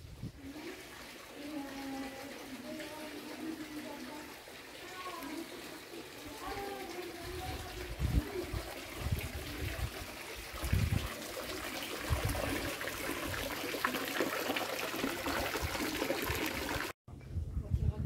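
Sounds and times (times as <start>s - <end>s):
fountain water trickling: 0.3s - 17.0s.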